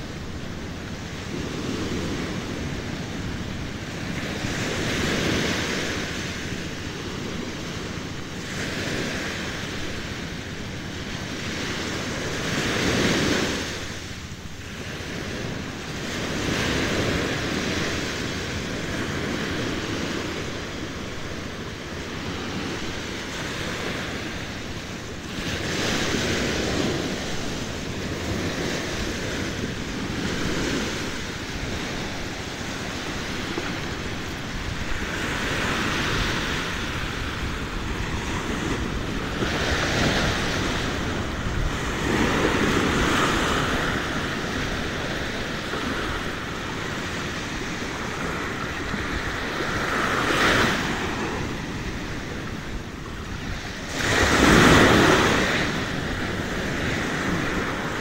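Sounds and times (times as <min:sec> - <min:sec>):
small waves washing onto shore: 0:00.0 - 0:58.0
wind buffeting microphone: 0:00.0 - 0:58.0.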